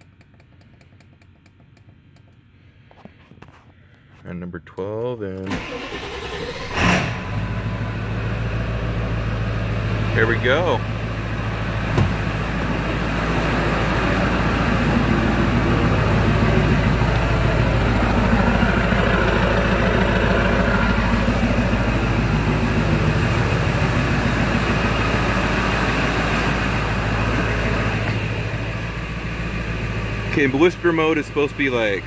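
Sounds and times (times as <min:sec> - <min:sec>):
diesel engine running: 0:05.4 - 0:32.0.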